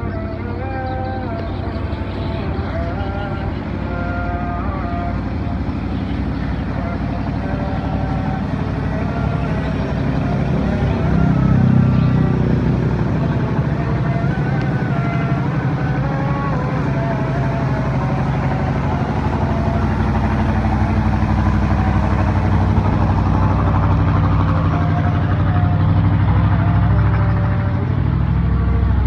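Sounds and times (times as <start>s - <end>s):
motors droning: 0.0s - 29.0s.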